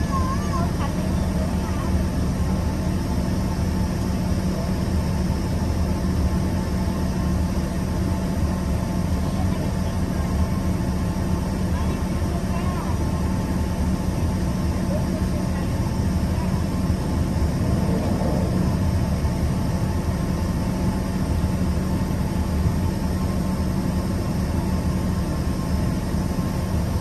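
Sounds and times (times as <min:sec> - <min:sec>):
constant low hum: 0:00.0 - 0:27.0
jet engines cabin drone: 0:00.0 - 0:27.0.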